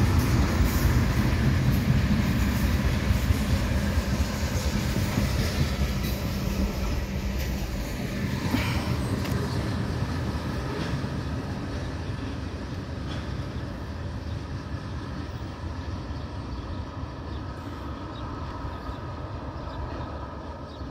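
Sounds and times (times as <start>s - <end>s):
freight train wheels rumbling: 0.0s - 20.9s.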